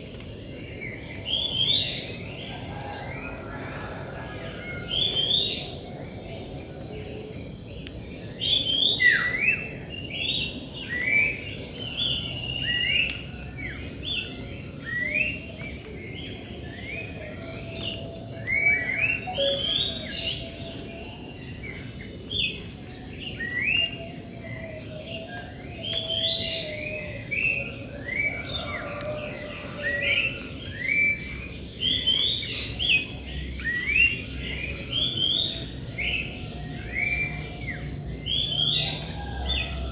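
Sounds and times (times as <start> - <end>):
crickets droning: 0.0 - 39.9.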